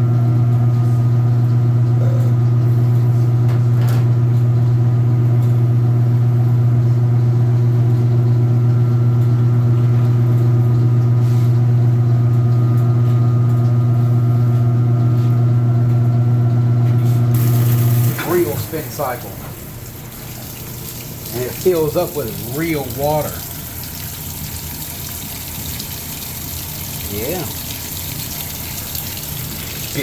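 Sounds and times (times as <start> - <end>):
washing machine spin cycle hum: 0.0 - 30.0.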